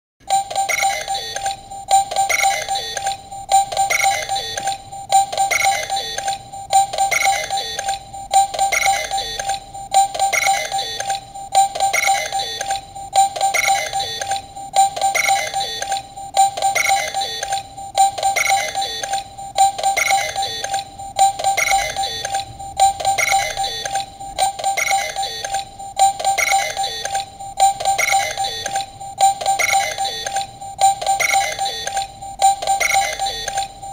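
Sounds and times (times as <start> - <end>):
toy electronic beeping phrase: 0.3 - 33.9.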